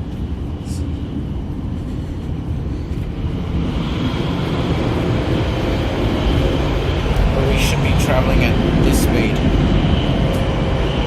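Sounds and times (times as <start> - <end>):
high speed train rumbling: 0.0 - 11.0.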